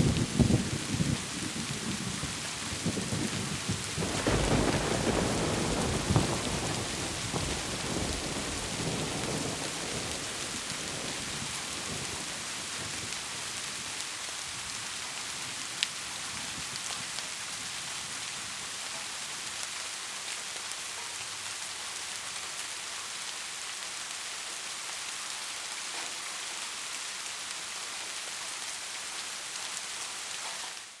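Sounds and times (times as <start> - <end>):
heavy rain on a roof: 0.0 - 31.0.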